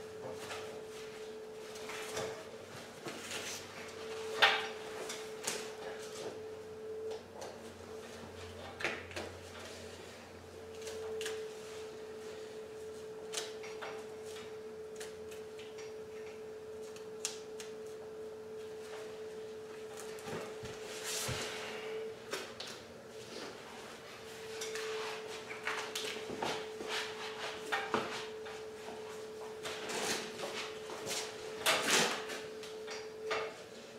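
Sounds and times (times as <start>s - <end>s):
steady high hum: 0.0s - 33.9s.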